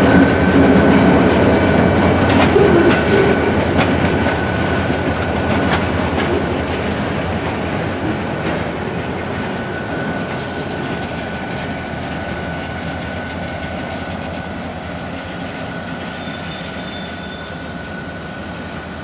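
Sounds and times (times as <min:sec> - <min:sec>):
high-pitched wheel squeal: 0:00.0 - 0:19.0
train wheels rumbling on rails: 0:00.0 - 0:19.0.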